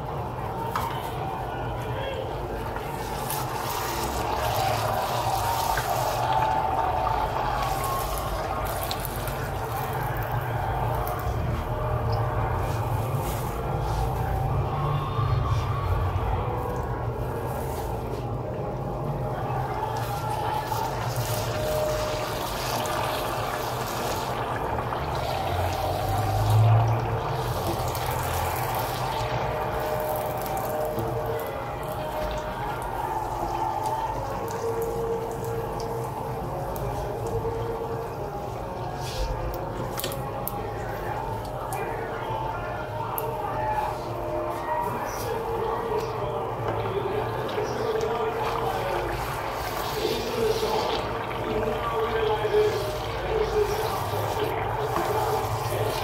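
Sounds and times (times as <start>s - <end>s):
oil sizzling and bubbling: 0.0s - 56.0s.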